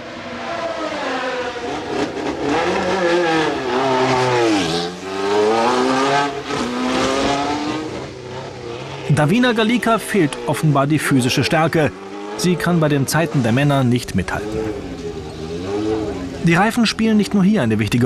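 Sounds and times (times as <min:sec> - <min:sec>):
racing car engine revving: 0:00.0 - 0:16.7.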